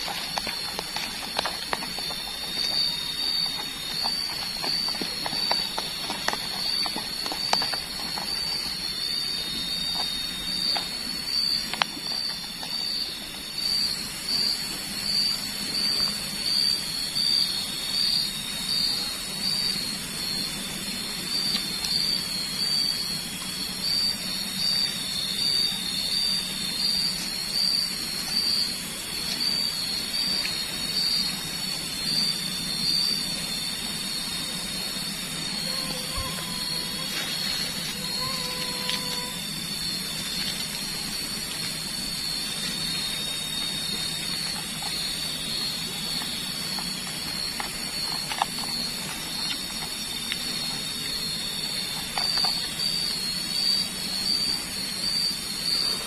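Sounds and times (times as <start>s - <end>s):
insects chorus pulsing: 0.0s - 56.0s
steady hiss: 0.0s - 56.0s.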